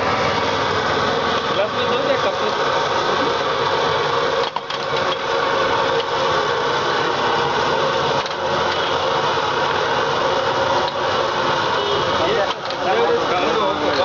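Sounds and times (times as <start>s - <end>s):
gas burner flame: 0.0s - 14.0s
tea boiling in saucepan: 0.0s - 14.0s.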